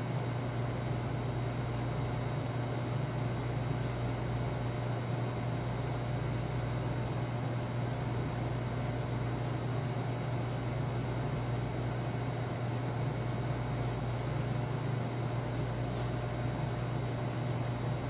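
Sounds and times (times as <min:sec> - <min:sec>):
kitchen fans and machinery hum: 0:00.0 - 0:18.0.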